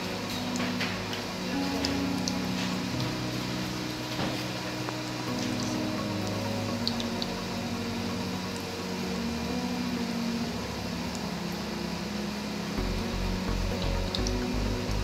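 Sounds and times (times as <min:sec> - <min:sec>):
background music low notes: 0:00.0 - 0:15.0.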